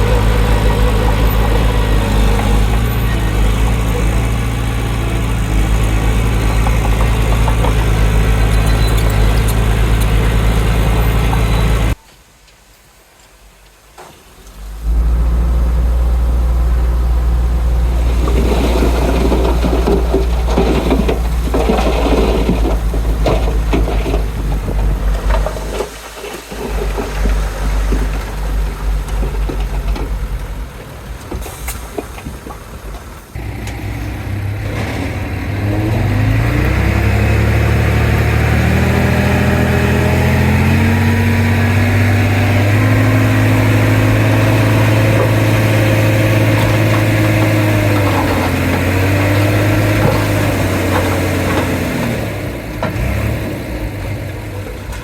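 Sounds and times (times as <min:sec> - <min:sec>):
heavy diesel engine running: 0:00.0 - 0:12.0, 0:14.8 - 0:25.8, 0:26.5 - 0:31.5, 0:33.3 - 0:55.0
metal clanking and scraping: 0:00.0 - 0:12.0, 0:17.8 - 0:30.6, 0:33.4 - 0:53.4.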